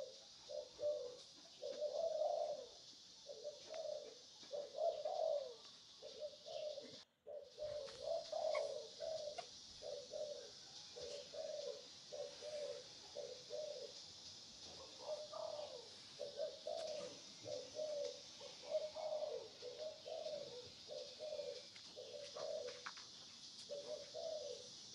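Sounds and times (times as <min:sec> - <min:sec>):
doves cooing: 0:00.0 - 0:24.9
steady high hiss: 0:00.0 - 0:24.9.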